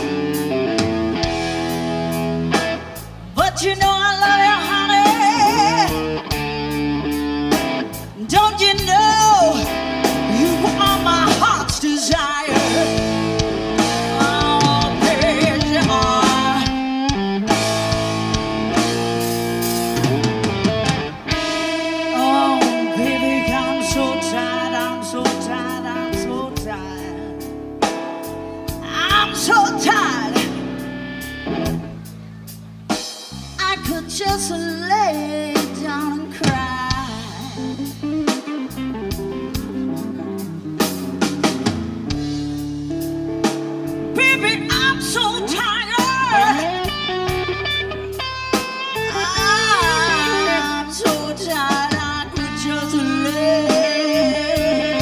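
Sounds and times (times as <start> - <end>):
electric lead guitar bending notes: 0.0 - 33.1, 34.0 - 55.0
bass guitar: 0.0 - 55.0
drum kit: 0.0 - 55.0.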